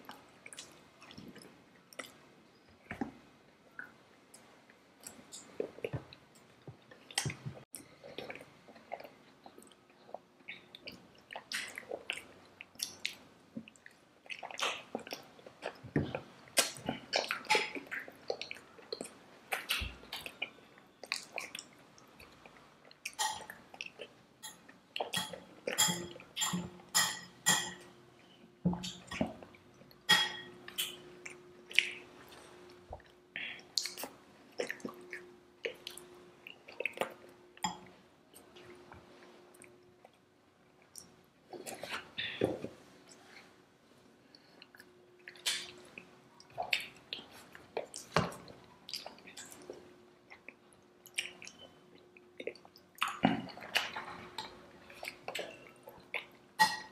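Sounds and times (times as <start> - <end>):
chewing and wet mouth sounds: 0.0 - 56.9.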